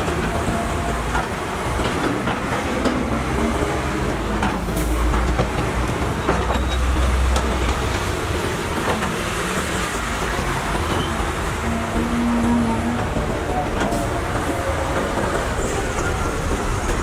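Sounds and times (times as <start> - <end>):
excavator diesel engine drone: 0.0 - 17.0.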